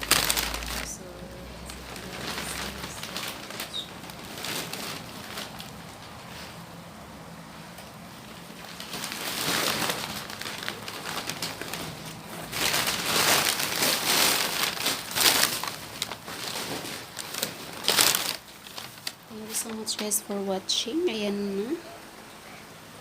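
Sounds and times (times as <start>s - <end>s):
plastic packaging crinkling: 0.0s - 6.7s, 8.2s - 20.5s.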